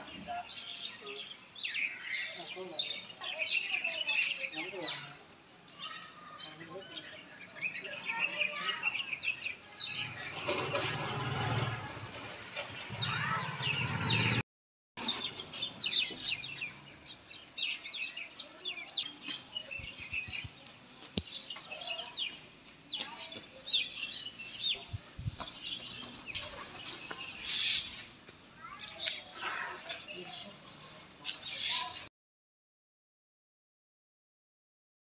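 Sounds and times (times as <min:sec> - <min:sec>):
birds chirping: 0:00.0 - 0:14.4, 0:15.0 - 0:32.0.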